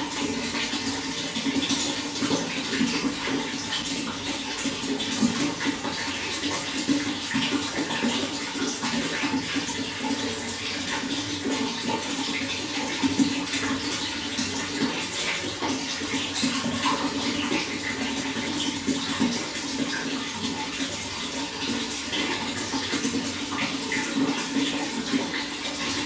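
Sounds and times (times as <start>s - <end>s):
running water flowing: 0.0s - 26.0s.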